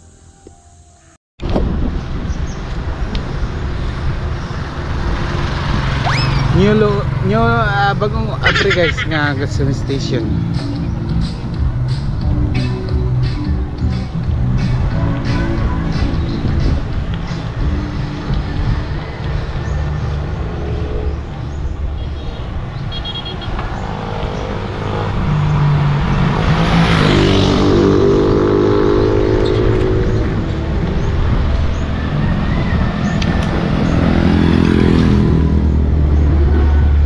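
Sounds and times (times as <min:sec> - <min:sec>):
low traffic rumble: 0:01.4 - 0:37.0
vehicle passing: 0:02.8 - 0:37.0.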